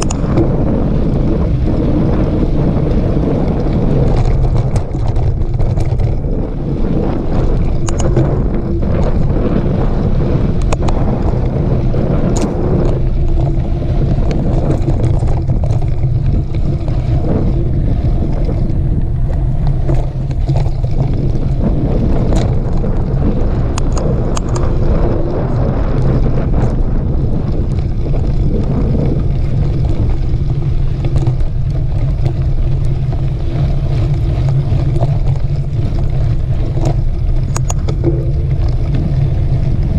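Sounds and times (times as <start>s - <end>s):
bike clicks and rattles: 0.0s - 39.9s
wind rushing over microphone: 0.0s - 39.9s.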